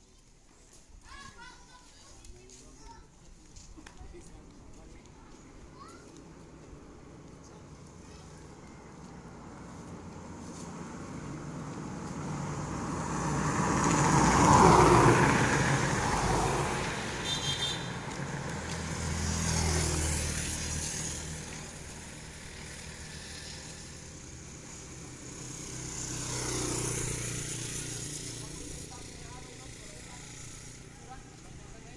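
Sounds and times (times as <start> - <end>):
vehicles passing by: 0.2 - 31.9
motorcycle riding past: 5.7 - 31.9.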